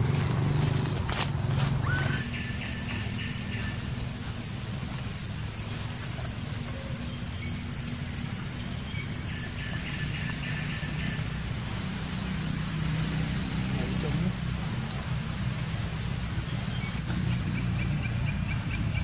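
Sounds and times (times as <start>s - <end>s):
insects droning: 0.0s - 19.0s
low steady rumble: 0.0s - 19.0s.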